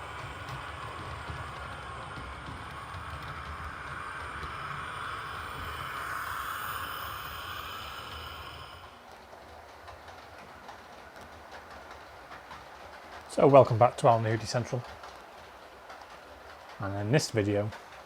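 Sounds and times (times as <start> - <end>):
model train rumbling along track: 0.0 - 18.0.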